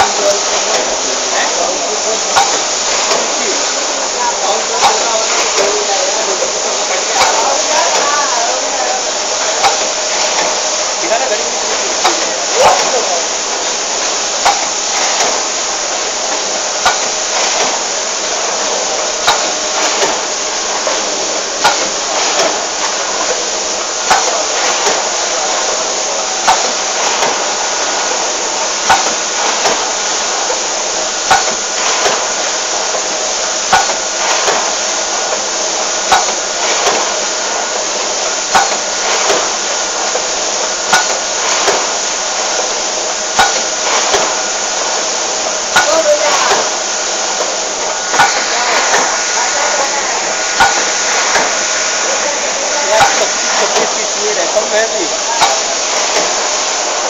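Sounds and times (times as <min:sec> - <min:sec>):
machine sharp clack: 0:00.0 - 0:57.0
steady machine noise: 0:00.0 - 0:57.0.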